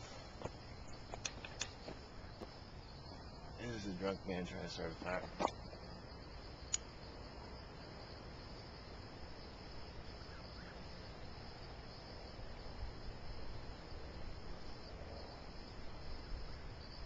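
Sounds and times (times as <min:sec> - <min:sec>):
crickets chirring: 0:00.0 - 0:17.0
low background hiss: 0:00.0 - 0:17.0.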